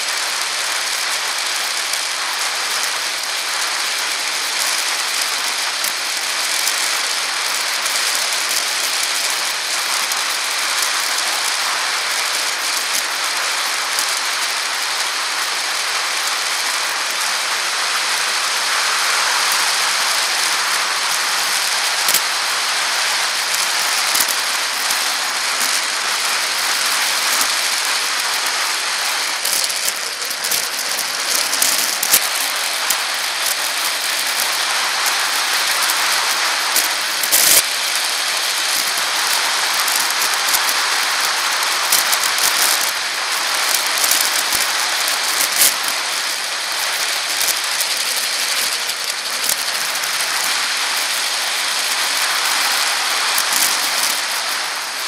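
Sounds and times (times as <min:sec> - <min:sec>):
bicycle tyres hissing: 0:00.0 - 0:55.0
bike clicks and rattles: 0:00.0 - 0:55.0.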